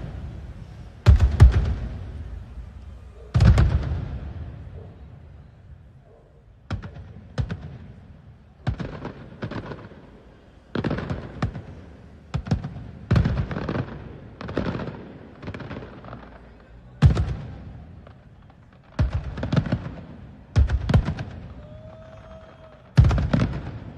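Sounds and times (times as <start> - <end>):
fireworks bangs echoing: 0.0 - 23.9.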